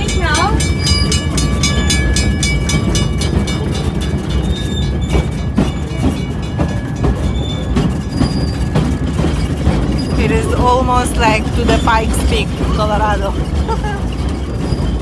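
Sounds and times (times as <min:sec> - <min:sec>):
high metallic squealing: 0:00.0 - 0:15.0
train car rumbling on track: 0:00.0 - 0:15.0
wheels knocking over rails: 0:00.0 - 0:15.0.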